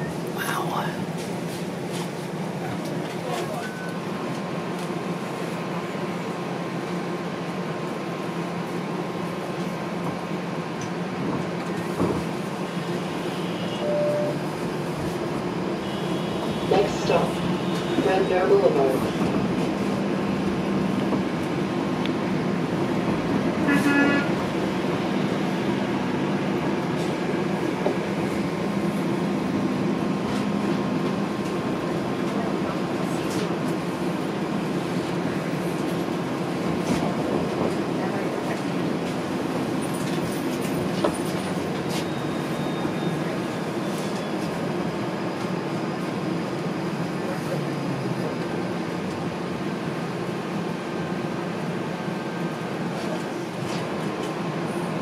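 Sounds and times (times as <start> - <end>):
streetcar ventilation hum: 0.0 - 55.0.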